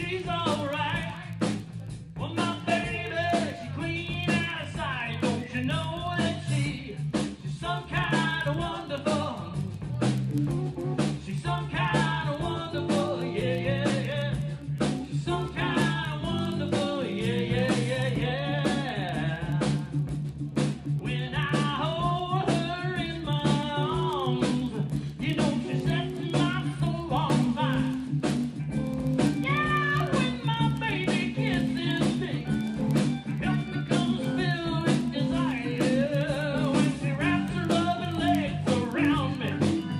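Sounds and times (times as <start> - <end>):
person singing: 0.0 - 10.2, 11.2 - 20.0, 21.0 - 28.1, 29.2 - 39.9
guitar: 0.0 - 39.9
steady drums: 0.0 - 39.9
walking bass line: 0.0 - 39.9.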